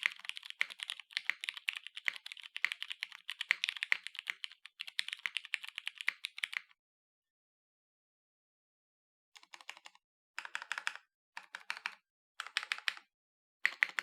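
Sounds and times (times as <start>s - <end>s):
mechanical keyboard typing: 0.0s - 6.7s, 9.4s - 14.0s.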